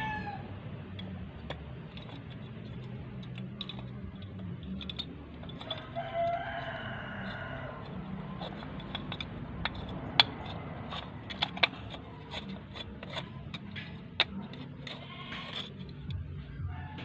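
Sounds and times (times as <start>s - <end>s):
metal tools clicking and tapping: 0.0s - 17.0s.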